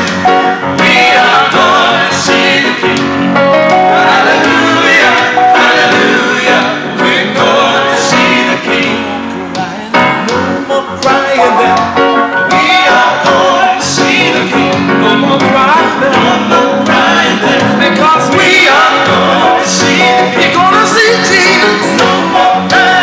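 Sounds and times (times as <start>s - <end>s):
grand piano playing: 0.0s - 23.0s
men singing gospel: 0.0s - 23.0s.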